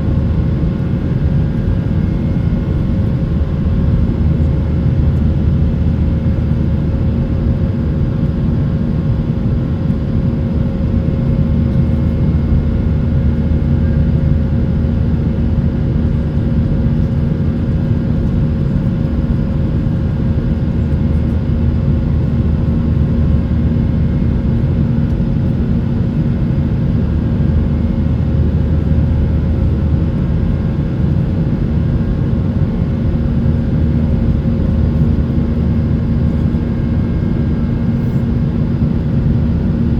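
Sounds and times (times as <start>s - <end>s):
constant hums: 0.0s - 39.9s
jet engines droning: 0.0s - 39.9s.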